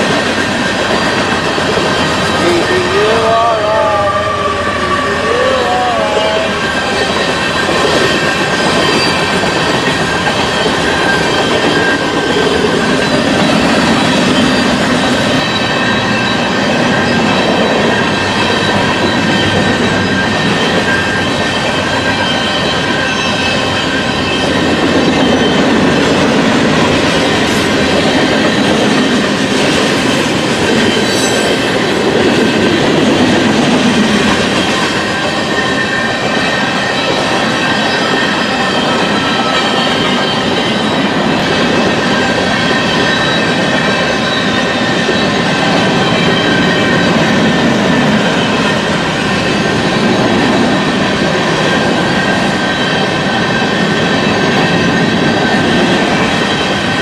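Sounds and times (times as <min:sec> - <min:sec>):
high wheel squeal: 0:00.0 - 0:57.0
train wheels on rails: 0:00.0 - 0:57.0.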